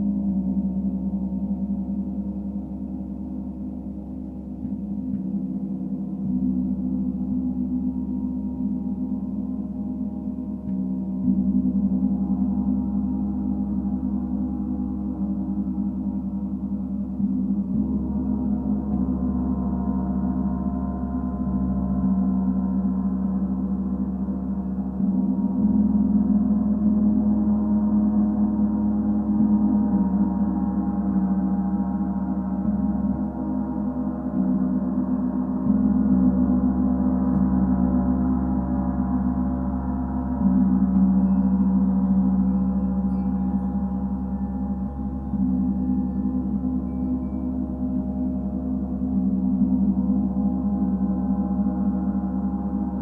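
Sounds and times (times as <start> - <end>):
singing bowls droning: 0.0 - 53.0.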